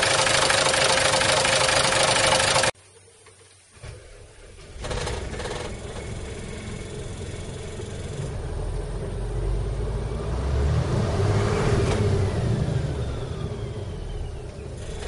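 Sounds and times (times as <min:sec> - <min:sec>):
diesel engine idling and revving: 0:00.0 - 0:02.8, 0:03.9 - 0:15.0.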